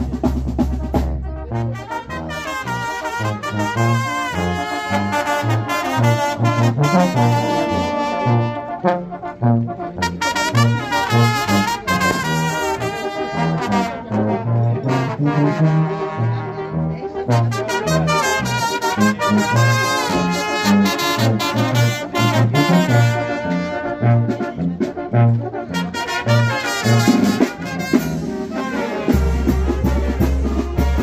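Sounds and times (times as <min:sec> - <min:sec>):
horn melody: 0:00.0 - 0:31.0.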